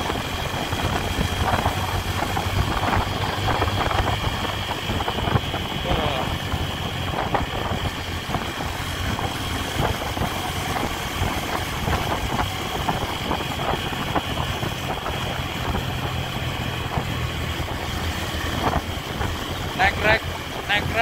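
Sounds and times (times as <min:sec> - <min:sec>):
motorcycle engine cruising: 0:00.0 - 0:21.0
road noise: 0:00.0 - 0:21.0
wind noise: 0:00.0 - 0:21.0.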